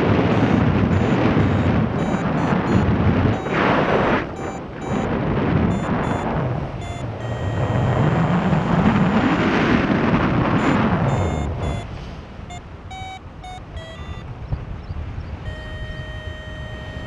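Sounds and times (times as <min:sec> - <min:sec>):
variometer beeping: 0:00.0 - 0:14.4, 0:15.4 - 0:17.0
wind rushing over microphone: 0:00.0 - 0:17.0.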